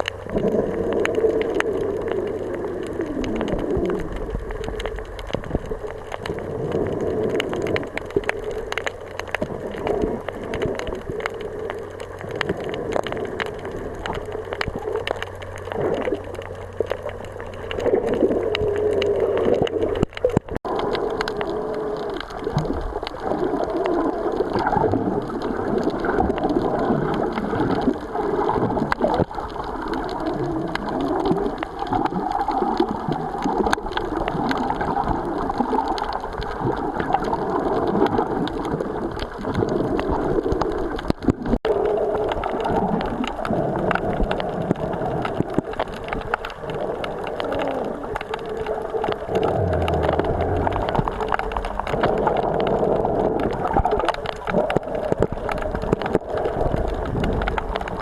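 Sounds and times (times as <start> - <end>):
sea water washing and gurgling: 0.0 - 58.0.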